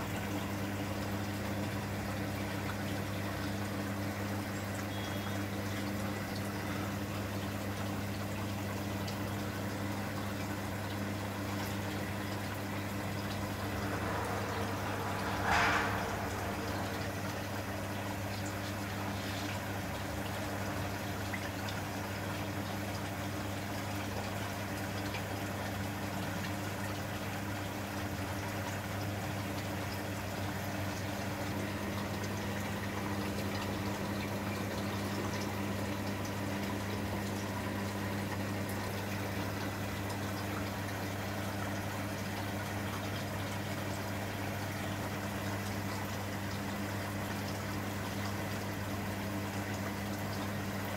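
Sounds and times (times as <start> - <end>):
aquarium pump humming: 0.0 - 50.9.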